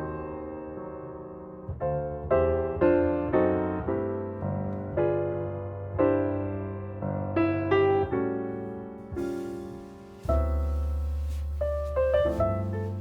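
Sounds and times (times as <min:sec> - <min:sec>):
slow piano notes: 0:00.0 - 0:13.0.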